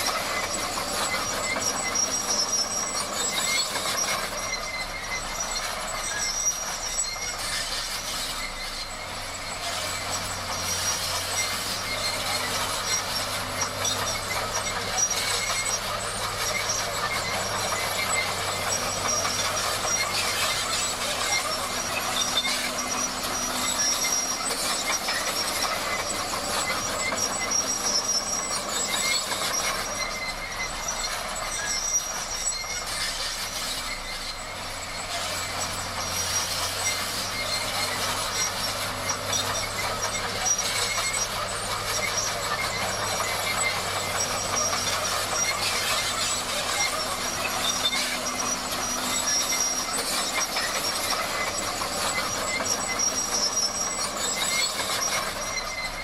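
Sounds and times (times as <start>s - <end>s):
bulldozer engine drone: 0.0s - 56.0s
crawler tracks clanking and grinding: 0.0s - 56.0s
thin high squeal: 0.0s - 56.0s.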